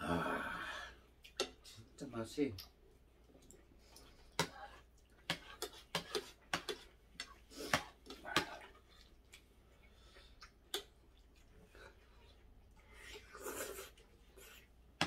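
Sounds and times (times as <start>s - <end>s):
chewing: 2.6s - 14.8s.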